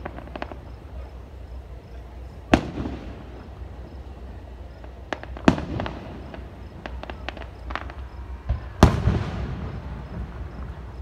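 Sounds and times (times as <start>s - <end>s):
fireworks crackling pops: 0.0s - 11.0s
rumble: 0.0s - 11.0s.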